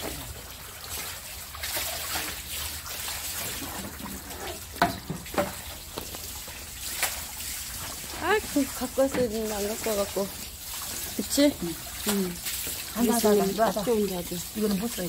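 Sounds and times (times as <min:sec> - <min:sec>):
hose water splashing into basin: 0:00.0 - 0:15.0.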